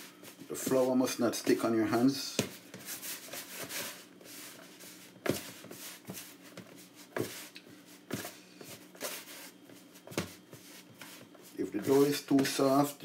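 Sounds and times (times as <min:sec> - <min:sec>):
hands kneading dough: 0:00.0 - 0:13.0.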